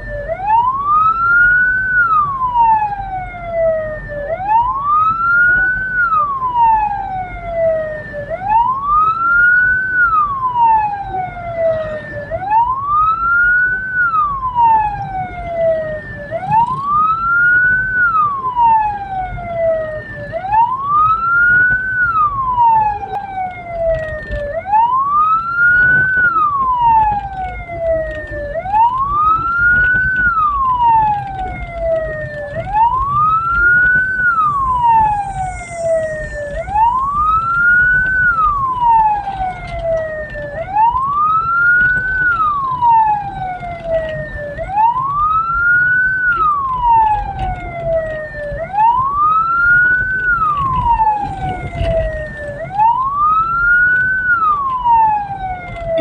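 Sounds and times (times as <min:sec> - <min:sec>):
siren wailing: 0:00.0 - 0:56.0
vehicle rumble: 0:00.0 - 0:56.0.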